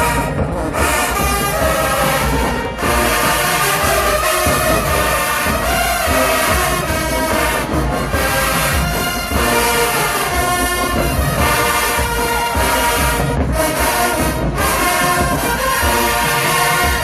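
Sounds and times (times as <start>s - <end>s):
bass drums: 0.0s - 17.0s
marching band playing: 0.0s - 17.0s.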